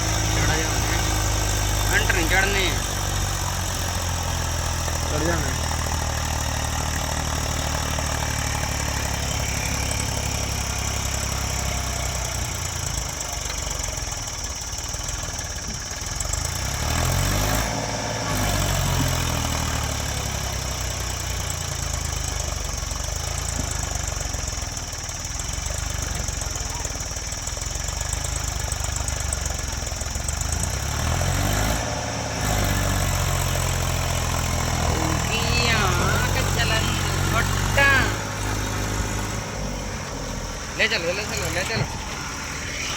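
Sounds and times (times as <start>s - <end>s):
tractor diesel engine straining: 0.0s - 42.9s.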